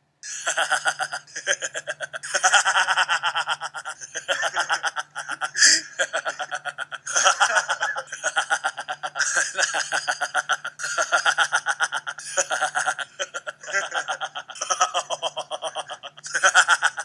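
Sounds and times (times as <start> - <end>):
man laughing hard: 0.2 - 17.0.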